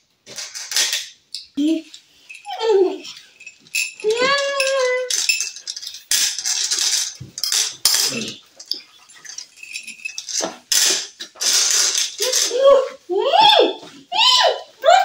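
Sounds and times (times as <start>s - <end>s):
candies rattling on plates: 0.3s - 13.0s.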